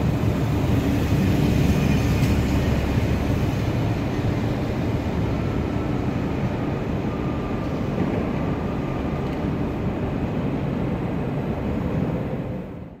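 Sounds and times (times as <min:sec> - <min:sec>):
trains rumbling: 0:00.0 - 0:13.0.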